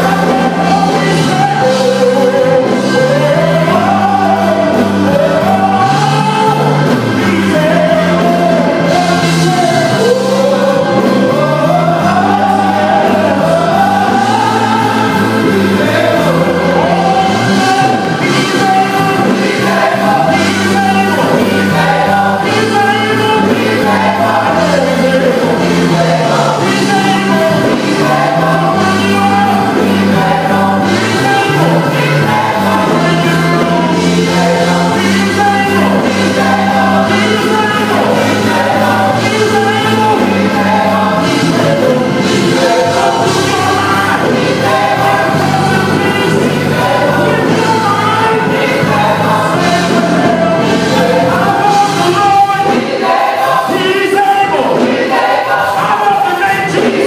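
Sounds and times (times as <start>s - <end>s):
choir singing gospel song: 0.0s - 57.0s
held bass notes: 0.0s - 57.0s
instrumental accompaniment: 0.0s - 57.0s.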